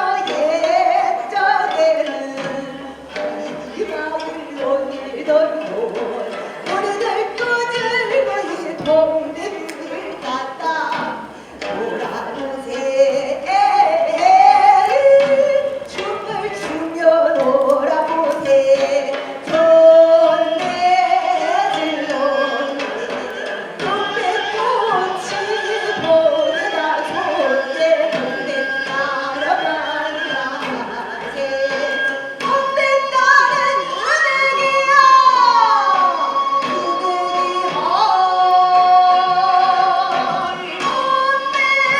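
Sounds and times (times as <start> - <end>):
woman singing folk song: 0.0 - 41.9.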